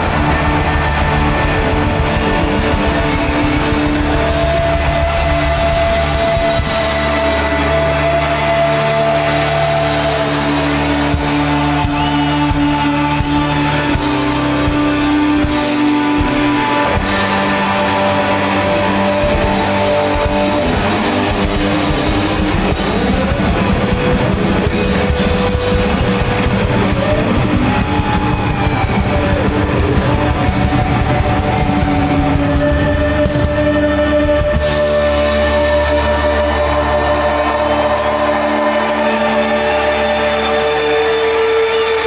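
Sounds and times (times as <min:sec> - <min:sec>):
bass guitar: 0:00.0 - 0:42.0
busy drums: 0:00.0 - 0:42.0
electric guitars: 0:00.0 - 0:42.0.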